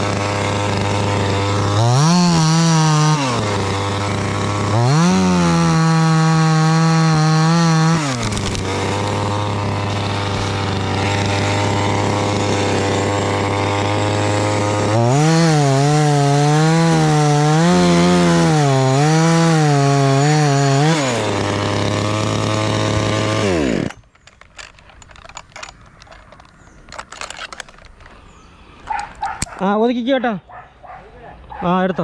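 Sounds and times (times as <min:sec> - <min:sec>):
chainsaw cutting wood: 0:00.0 - 0:29.7.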